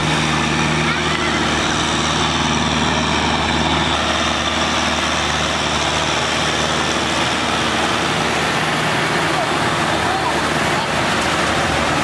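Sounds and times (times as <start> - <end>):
tractor diesel engine: 0.0 - 12.0.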